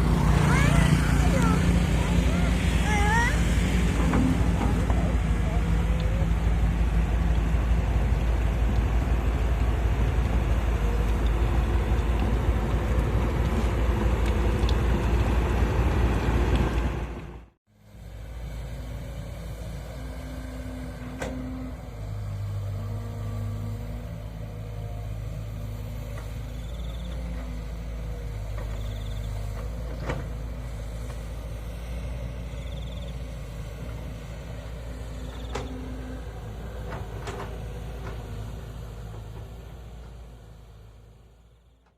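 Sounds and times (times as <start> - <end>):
excavator diesel engine rumbling: 0.0 - 41.9.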